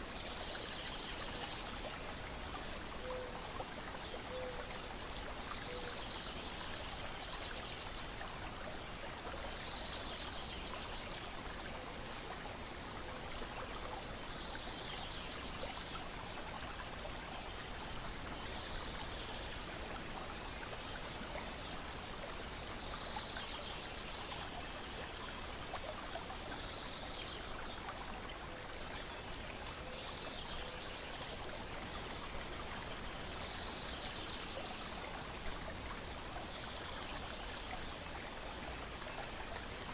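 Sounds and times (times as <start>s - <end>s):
water lapping and trickling: 0.0s - 39.9s.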